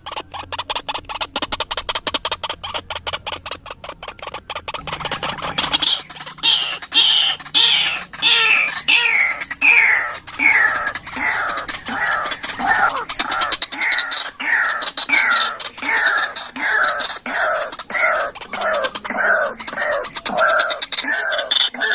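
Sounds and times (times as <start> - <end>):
waterhen harsh calls: 0.0 - 21.9.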